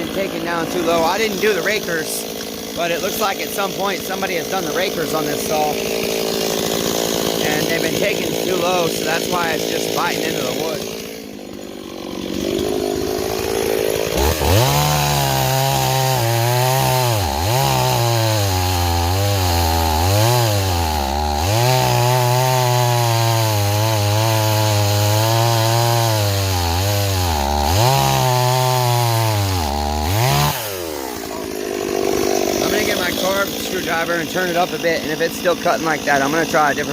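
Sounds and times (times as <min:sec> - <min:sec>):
chainsaw cutting into log: 0:00.0 - 0:36.9.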